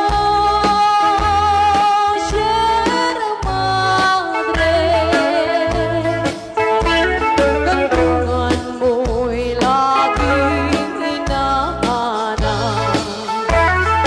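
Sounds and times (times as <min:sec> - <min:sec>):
live band playing a waltz: 0:00.0 - 0:14.0
woman singing with vibrato: 0:00.0 - 0:14.0.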